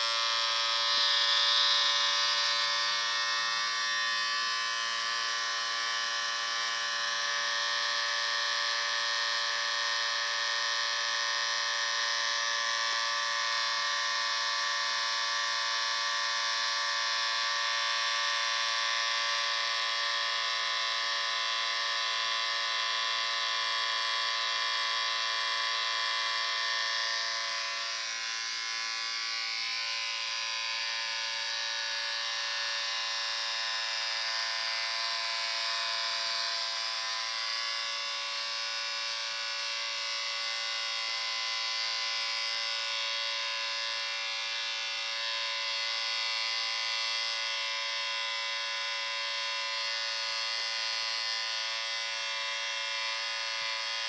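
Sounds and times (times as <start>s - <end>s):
electric shaver buzzing: 0.0s - 54.0s.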